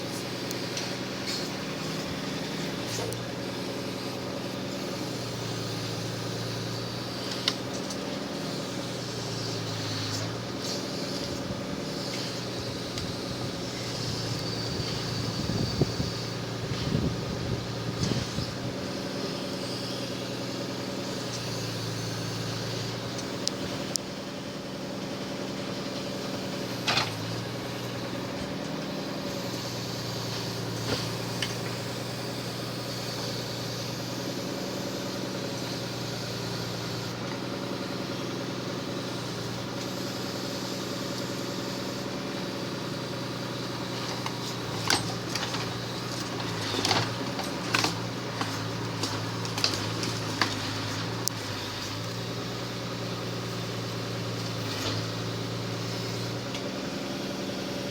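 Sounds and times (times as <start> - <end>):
truck engine idling: 0.0 - 57.9.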